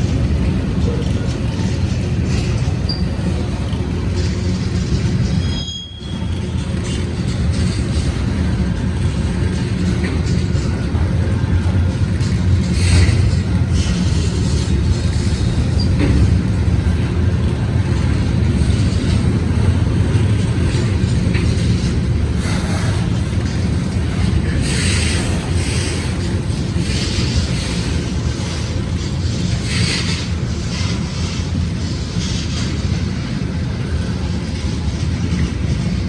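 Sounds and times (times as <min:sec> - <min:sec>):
freight train rumbling on rails: 0:00.0 - 0:36.0.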